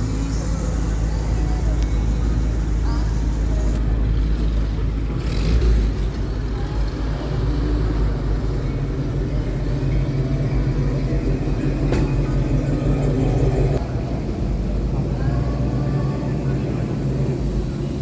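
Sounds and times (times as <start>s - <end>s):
car engines driving past: 0.0s - 18.0s.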